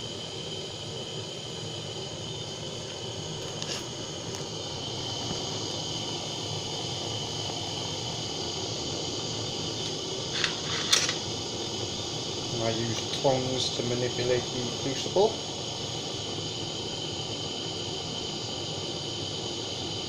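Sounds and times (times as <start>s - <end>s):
butane torch burning: 0.0s - 20.0s.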